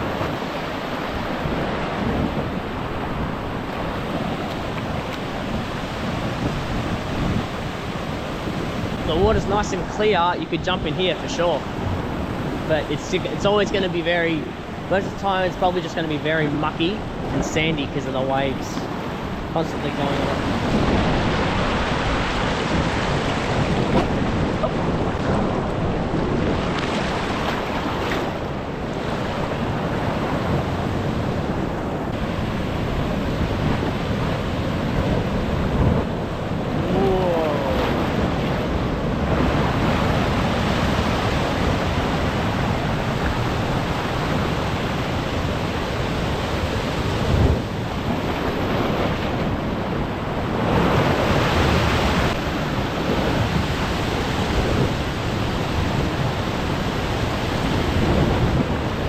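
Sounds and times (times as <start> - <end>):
surf washing over rocks: 0.0 - 59.0
wind buffeting microphone: 0.0 - 59.0.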